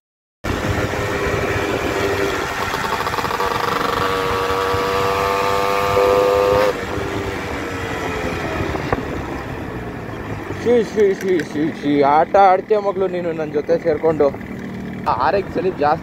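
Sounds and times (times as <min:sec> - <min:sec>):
motorcycle engine droning: 0:00.5 - 0:16.0.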